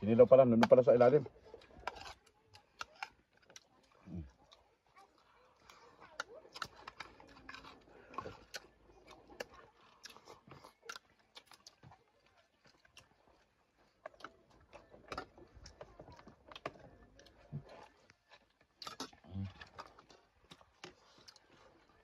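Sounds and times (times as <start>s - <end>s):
people chewing and smacking lips: 0.0s - 22.0s.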